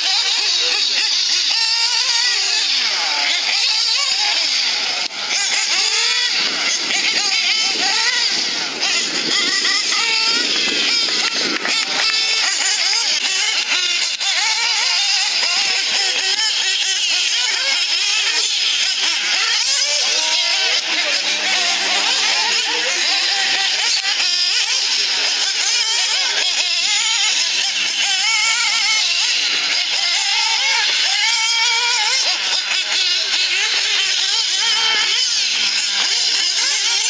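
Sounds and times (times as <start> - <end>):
rc buggy engines whining: 0.0 - 37.0.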